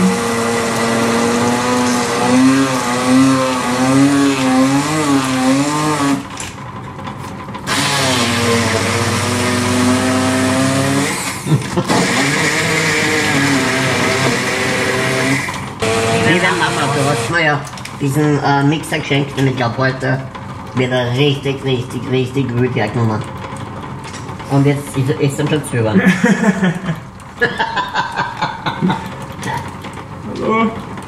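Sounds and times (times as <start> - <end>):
stick blender motor humming: 0.0 - 31.0.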